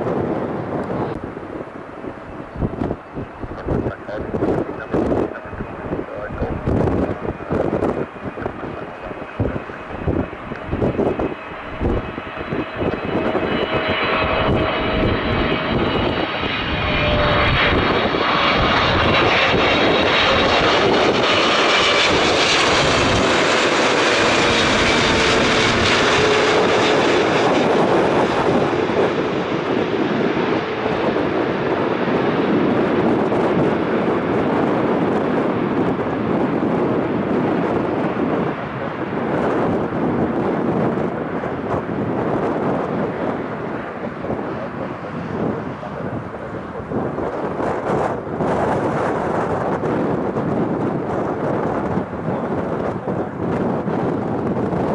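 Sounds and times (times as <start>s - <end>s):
aircraft engines roaring: 0.0s - 54.9s.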